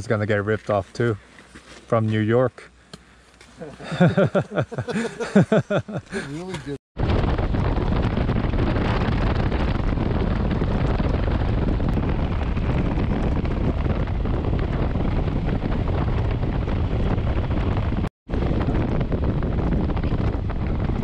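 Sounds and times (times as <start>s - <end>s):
wind rushing over microphone: 3.9s - 21.0s.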